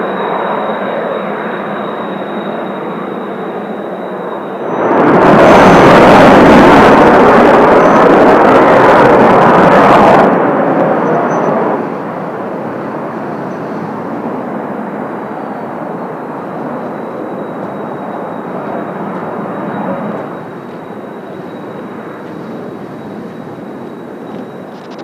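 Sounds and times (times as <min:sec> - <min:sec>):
jet planes flying over: 0:00.0 - 0:25.0.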